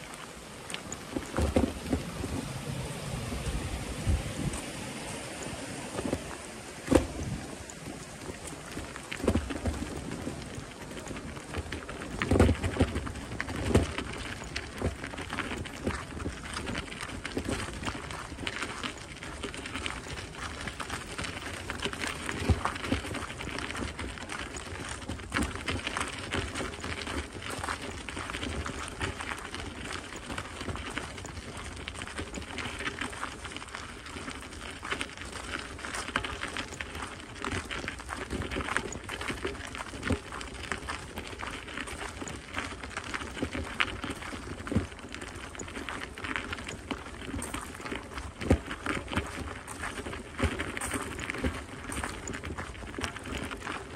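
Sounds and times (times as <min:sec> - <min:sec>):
footsteps crunching on gravel: 0:00.0 - 0:53.9.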